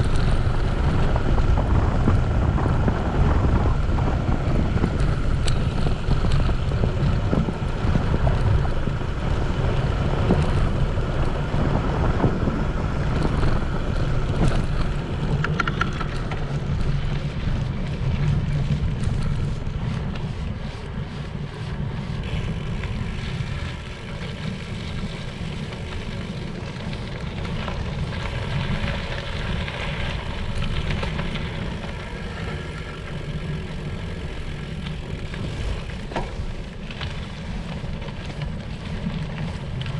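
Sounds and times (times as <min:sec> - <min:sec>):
bicycle ride rumble: 0:00.0 - 0:39.9
wind buffeting microphone: 0:00.0 - 0:39.9.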